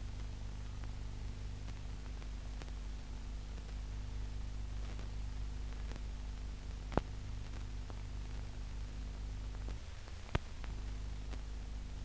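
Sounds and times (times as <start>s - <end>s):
film soundtrack hum and hiss: 0.0s - 12.0s.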